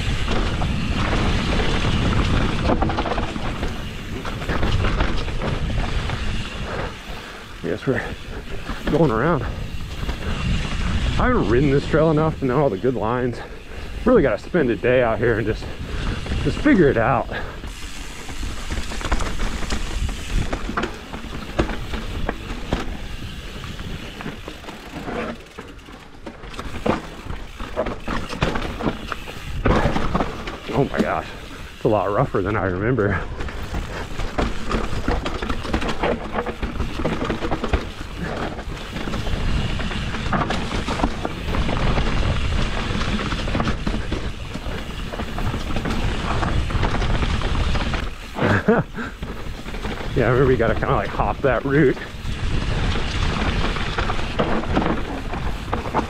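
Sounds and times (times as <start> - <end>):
wind buffeting microphone: 0.0 - 24.4, 33.1 - 56.0
bike clattering over bumps: 0.0 - 56.0
tyres crunching on dirt: 0.0 - 56.0.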